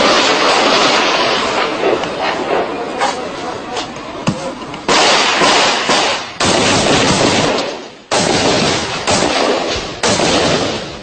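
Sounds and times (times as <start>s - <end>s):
gunshots: 0.0s - 2.9s, 4.3s - 11.0s.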